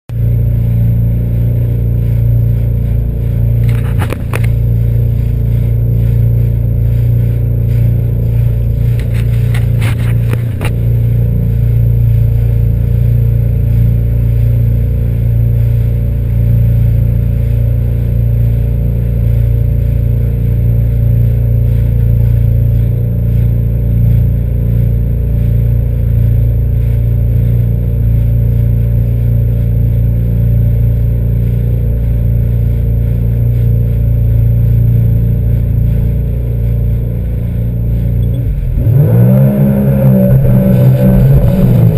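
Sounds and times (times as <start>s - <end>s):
watercraft engine humming: 0.1s - 41.9s.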